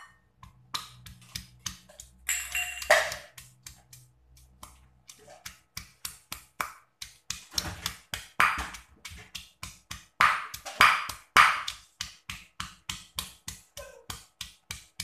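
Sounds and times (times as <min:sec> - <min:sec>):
stone pestle pounding in mortar: 0:00.2 - 0:15.0.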